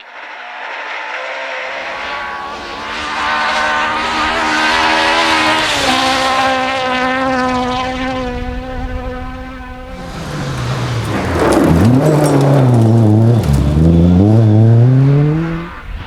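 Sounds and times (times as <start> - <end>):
rally car engine at full throttle: 0.0 - 16.0.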